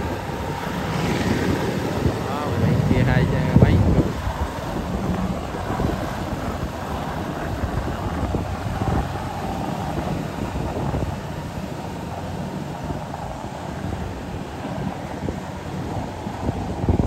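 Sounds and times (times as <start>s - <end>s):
tracked carrier engine running: 0.0s - 17.0s.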